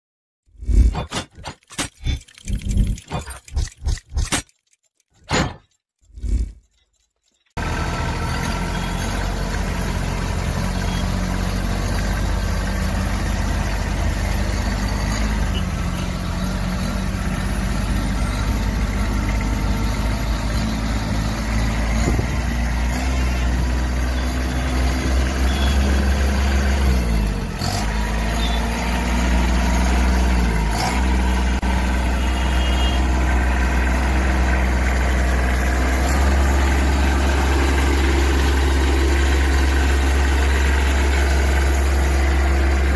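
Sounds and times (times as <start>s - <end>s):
tractor diesel engine running: 6.2s - 42.9s.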